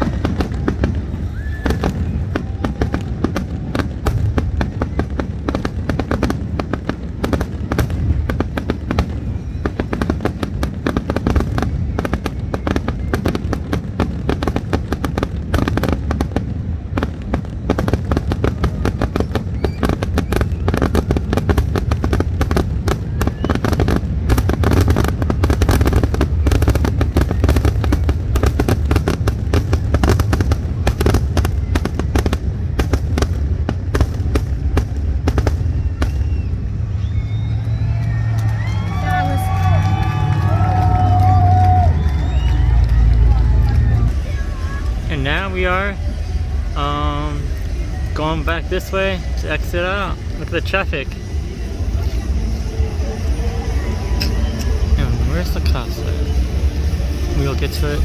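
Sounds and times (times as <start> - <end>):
deep rumble: 0.0 - 58.0
fireworks bangs and crackles: 0.0 - 58.0.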